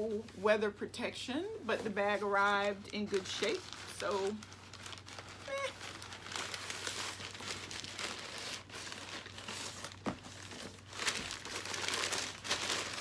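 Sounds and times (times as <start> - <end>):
packaging crinkling and rustling: 1.8 - 13.0.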